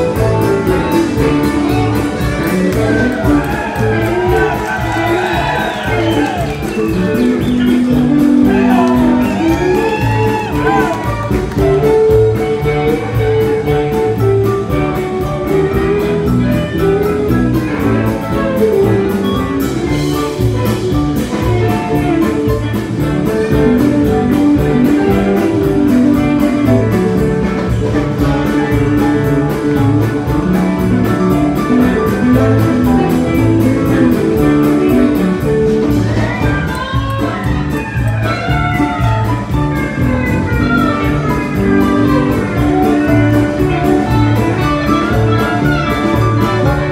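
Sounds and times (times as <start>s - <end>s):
drum kit beat: 0.0s - 46.9s
electric guitars: 0.0s - 46.9s
pedal steel guitar: 0.0s - 46.9s.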